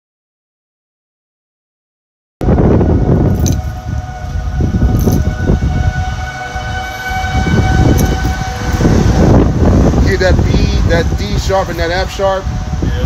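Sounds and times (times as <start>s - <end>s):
heavy low rumble: 2.4s - 13.0s
warning siren: 2.4s - 13.0s.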